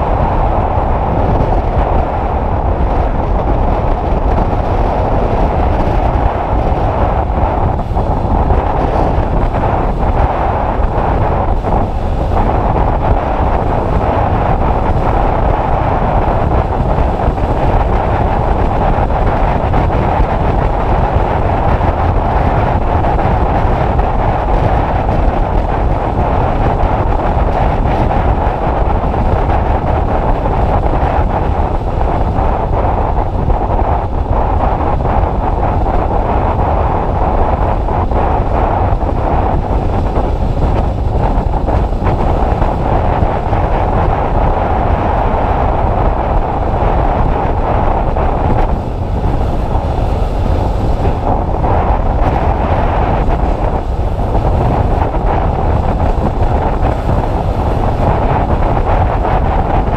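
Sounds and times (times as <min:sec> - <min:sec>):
loud wind buffeting microphone: 0:00.0 - 0:59.9.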